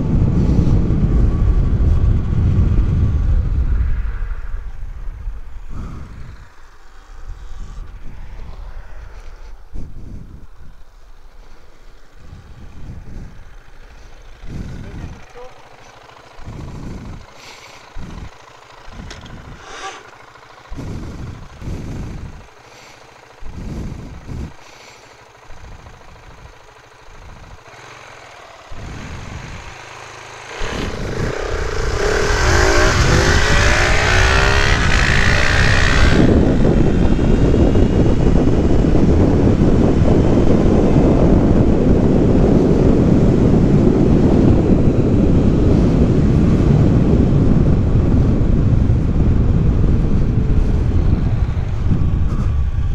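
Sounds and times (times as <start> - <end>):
wind noise at speed: 0.0 - 15.3, 16.3 - 22.6, 23.2 - 27.8, 28.7 - 29.8, 30.5 - 52.9
motorcycle engine revving: 0.0 - 52.9
motorcycles accelerating with whine: 0.0 - 52.9.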